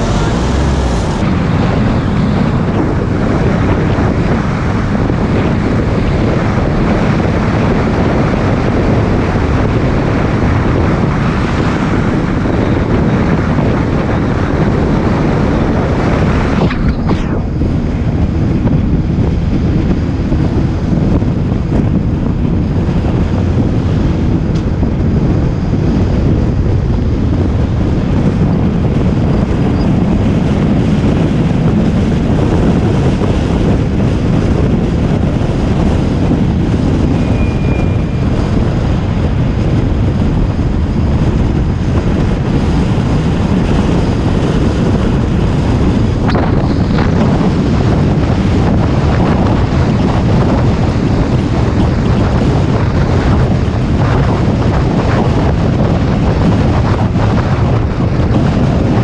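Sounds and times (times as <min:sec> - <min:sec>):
road and engine rumble: 0:00.0 - 0:59.0
wind rushing over microphone: 0:00.0 - 0:59.0.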